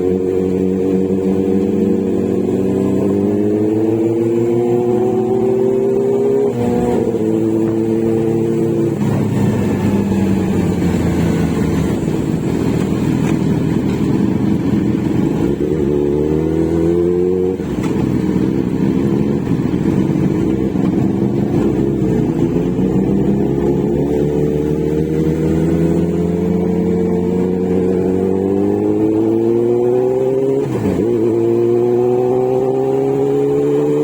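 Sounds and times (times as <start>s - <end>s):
motorcycle engine and exhaust: 0.0s - 34.0s.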